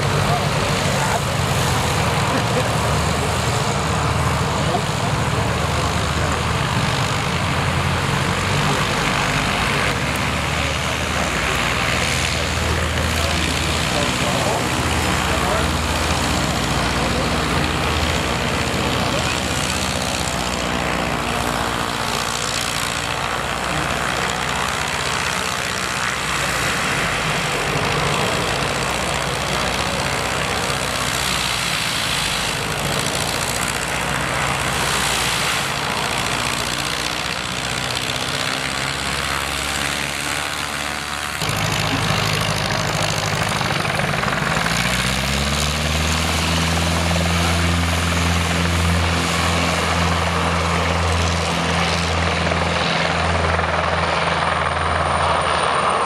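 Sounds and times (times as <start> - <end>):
biplane engine running: 0.0 - 56.0
light aircraft engine and propeller: 0.0 - 56.0.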